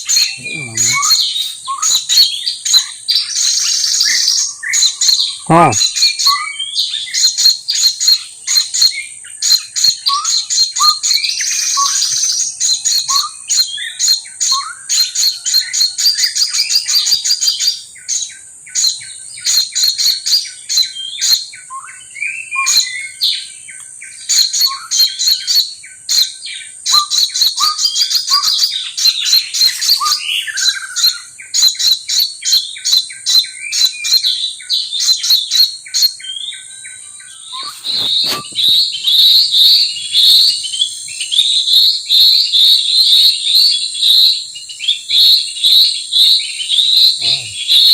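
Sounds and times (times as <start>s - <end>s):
birds chirping: 0.0s - 47.9s
upward-slurred whistled bird notes: 0.0s - 47.9s.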